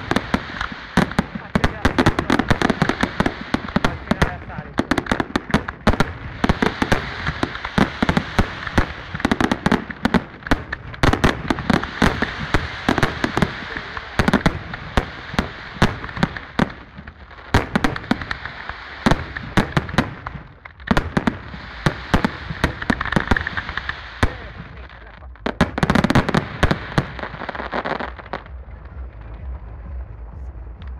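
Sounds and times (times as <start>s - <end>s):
fireworks crackling: 0.0s - 30.9s.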